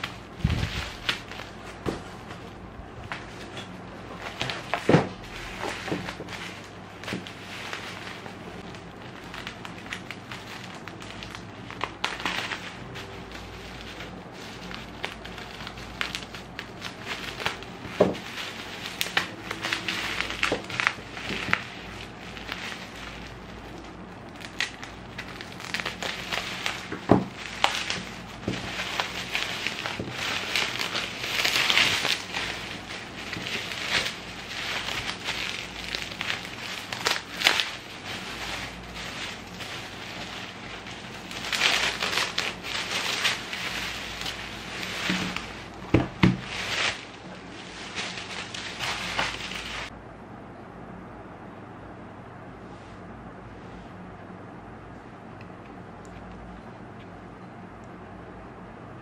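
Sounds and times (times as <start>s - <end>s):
bubble wrap crinkling: 0.0s - 50.0s.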